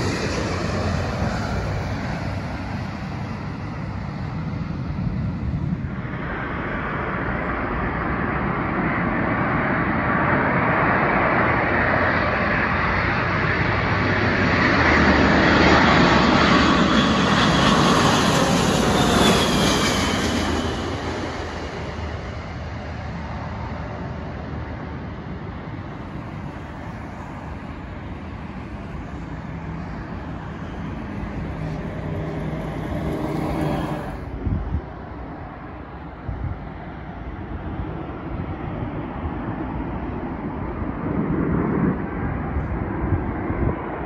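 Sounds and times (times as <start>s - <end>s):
jet airliner flying overhead: 0.0s - 44.0s.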